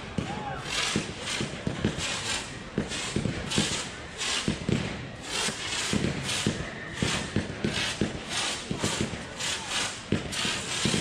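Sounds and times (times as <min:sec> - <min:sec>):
firework thumps: 0:00.1 - 0:02.1, 0:02.7 - 0:09.3, 0:10.0 - 0:11.0
firework hissing: 0:00.6 - 0:11.0.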